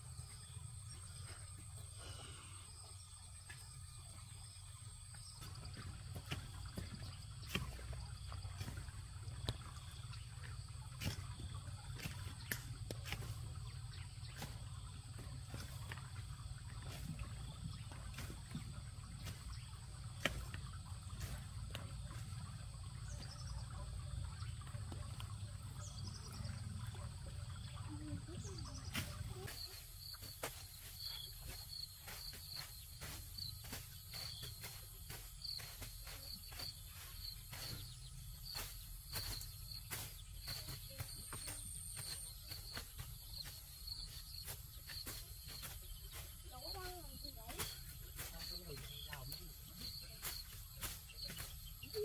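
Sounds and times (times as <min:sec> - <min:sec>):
insects chirping: 0:00.0 - 0:52.0.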